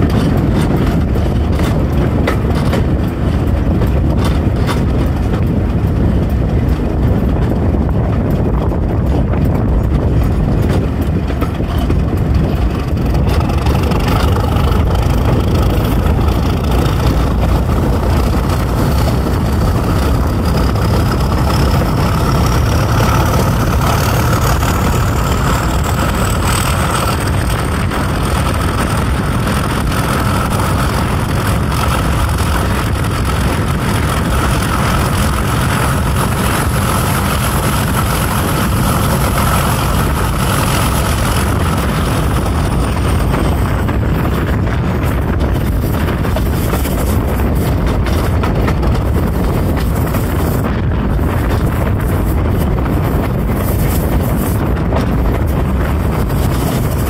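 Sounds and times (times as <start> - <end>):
diesel locomotive engine: 0.0 - 57.0
high engine whine: 0.0 - 57.0
wind buffeting microphone: 0.0 - 57.0.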